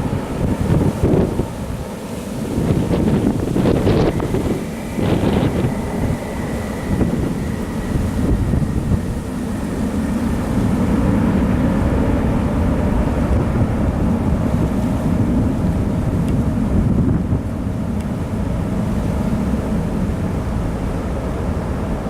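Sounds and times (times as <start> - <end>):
high engine whine: 0.0 - 22.0
jet engine rumble: 0.0 - 22.0
wind buffeting microphone: 0.0 - 22.0.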